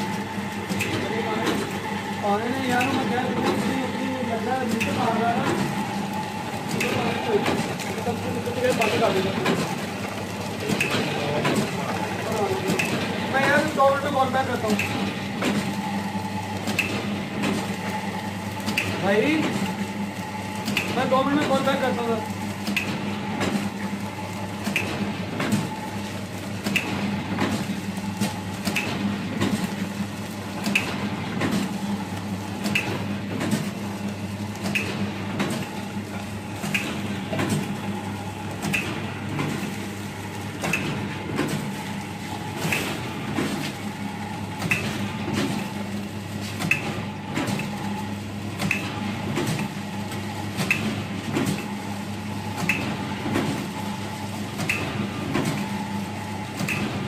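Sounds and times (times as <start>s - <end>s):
machine clacking: 0.0s - 57.0s
packing machine motor hum: 0.0s - 57.0s.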